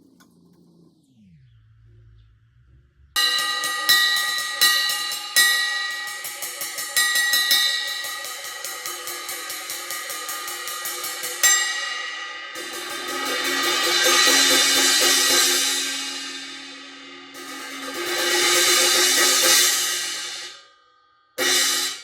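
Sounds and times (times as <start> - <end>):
crash cymbal struck with sticks: 3.2 - 20.8, 21.4 - 22.0.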